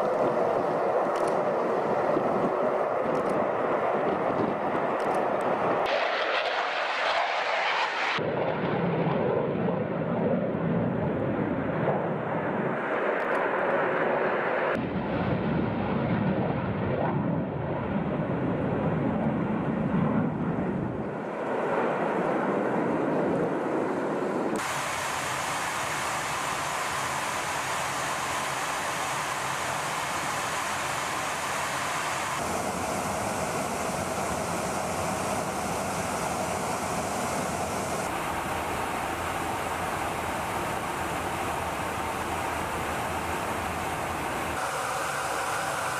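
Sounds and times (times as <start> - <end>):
jet engine rumble: 0.0 - 45.9.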